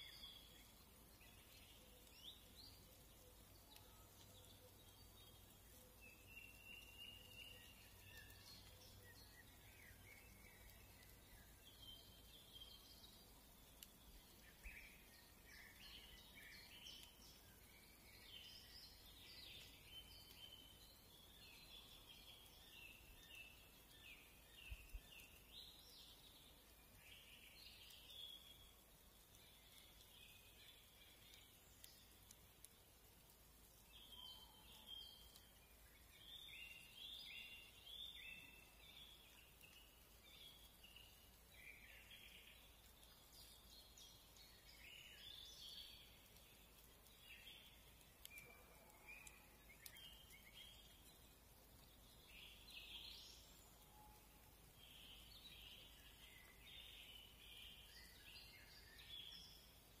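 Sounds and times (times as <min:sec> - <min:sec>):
background hiss: 0:00.0 - 1:00.0
faint birdsong: 0:00.0 - 1:00.0.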